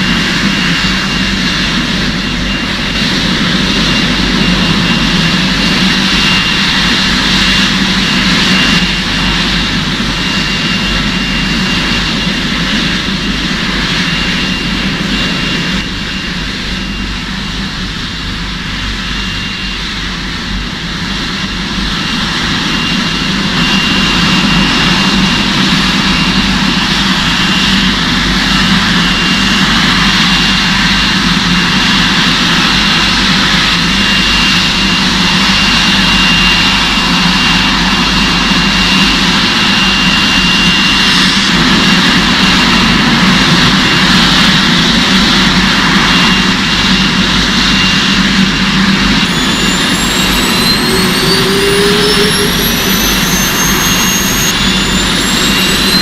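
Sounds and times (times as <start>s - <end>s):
jet engine whine: 0.0s - 56.0s
jet engines roaring: 0.0s - 56.0s.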